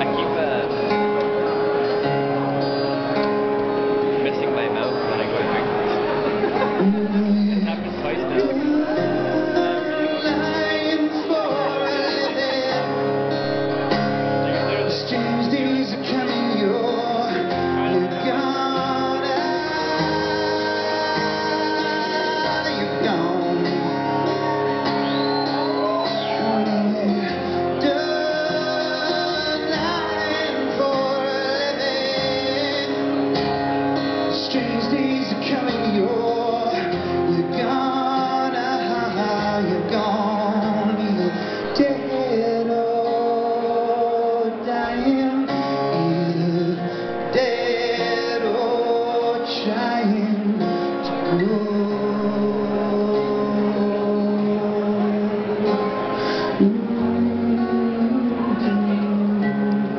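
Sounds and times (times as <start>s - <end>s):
acoustic guitar strumming: 0.0s - 59.9s
man singing: 6.5s - 59.9s.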